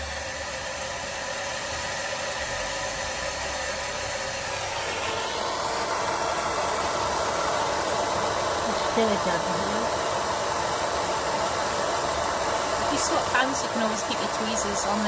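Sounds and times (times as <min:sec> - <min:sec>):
soldering torch flame hissing: 0:00.0 - 0:15.0.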